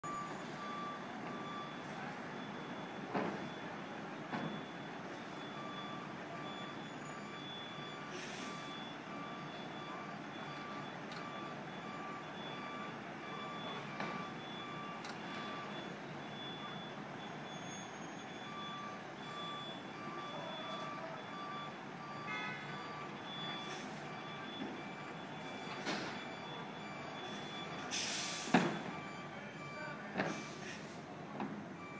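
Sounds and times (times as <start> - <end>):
back-up alarm beeping: 0.0 - 30.7
construction site and street noise: 0.0 - 31.9.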